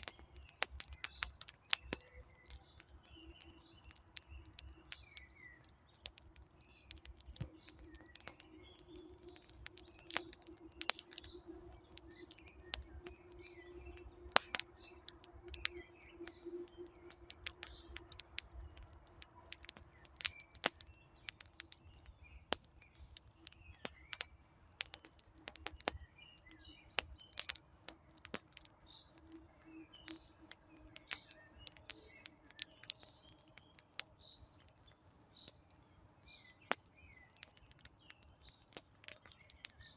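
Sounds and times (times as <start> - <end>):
campfire crackling and popping: 0.0 - 39.9
faint bird chirps: 0.0 - 39.9.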